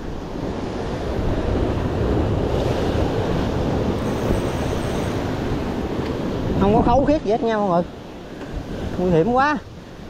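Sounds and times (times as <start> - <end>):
sea waves breaking on shore: 0.0 - 10.0
wind buffeting microphone: 0.0 - 10.0.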